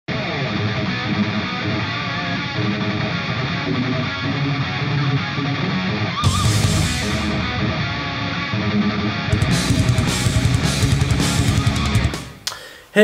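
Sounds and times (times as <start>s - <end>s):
rock music with electric guitar: 0.1s - 12.4s.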